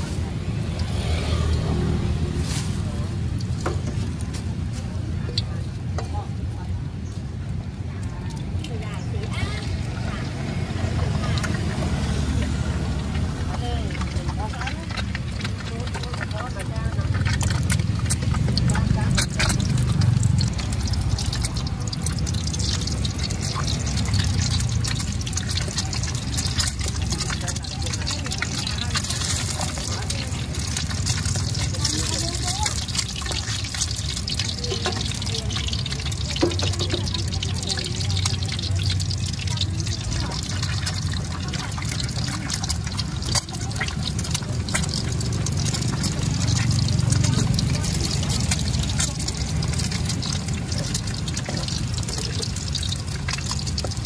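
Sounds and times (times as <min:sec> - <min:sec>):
egg frying in sizzling oil: 0:00.0 - 0:54.0.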